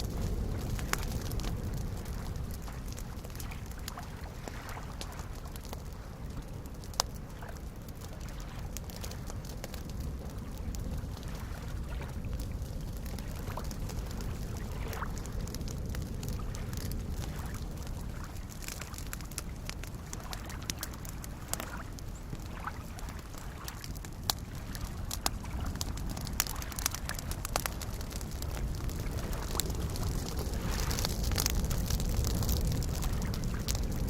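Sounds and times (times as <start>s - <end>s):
campfire crackling and popping: 0.0s - 34.0s
lake waves lapping: 0.1s - 34.0s.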